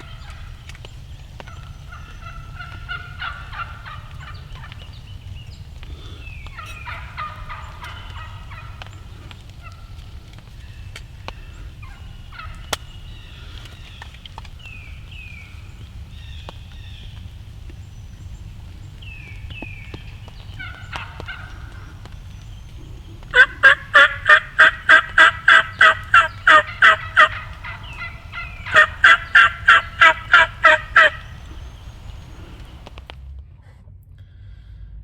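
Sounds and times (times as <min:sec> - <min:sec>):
turkey falling call notes: 0:00.0 - 0:33.0
turkey gobbling: 0:00.0 - 0:33.0.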